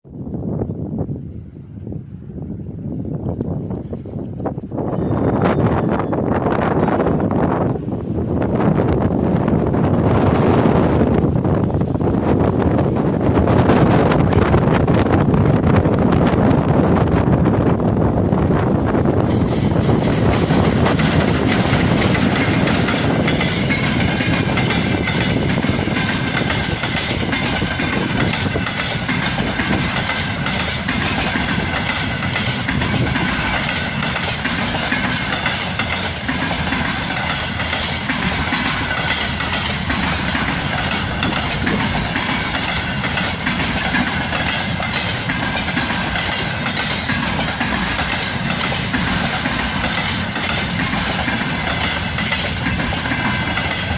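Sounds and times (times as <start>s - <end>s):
freight train wheels clattering: 6.4s - 53.9s.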